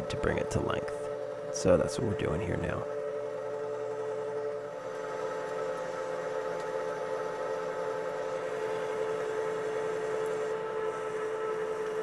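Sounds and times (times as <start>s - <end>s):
lathe running: 0.0s - 12.0s.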